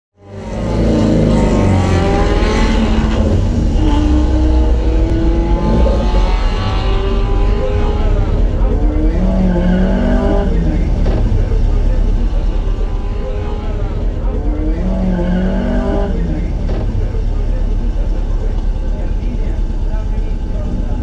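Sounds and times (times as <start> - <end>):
car engine revving: 0.2 - 21.0.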